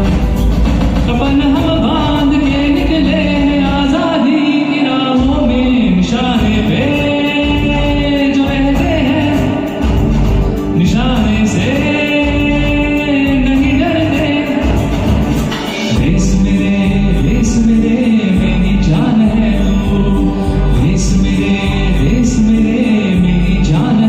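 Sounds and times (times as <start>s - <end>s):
instrumental backing music: 0.0s - 24.0s
person singing: 0.0s - 24.0s.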